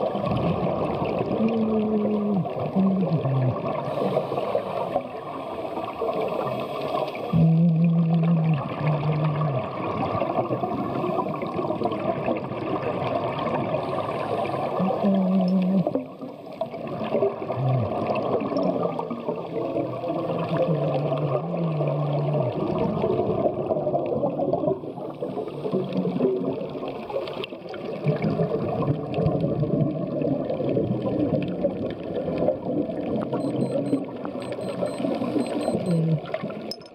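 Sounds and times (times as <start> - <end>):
scuba regulator bubbling: 0.0 - 36.9.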